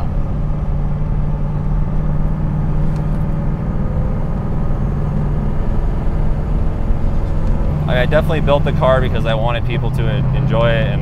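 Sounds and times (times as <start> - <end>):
car engine drone from cabin: 0.0 - 11.0.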